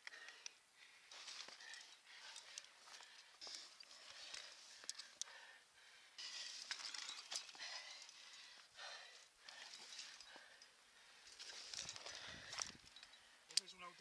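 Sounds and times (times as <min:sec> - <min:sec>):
person breathing hard: 0:00.0 - 0:13.5.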